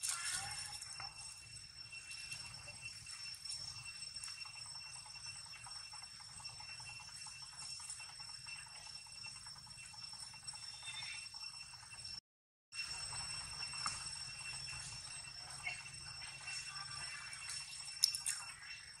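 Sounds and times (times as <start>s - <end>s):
high-pitched drone: 0.0s - 12.2s, 12.8s - 19.0s.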